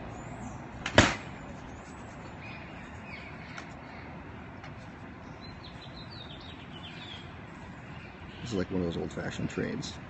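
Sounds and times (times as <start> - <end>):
outdoor background hiss: 0.0 - 10.0
small birds chirping: 0.0 - 10.0.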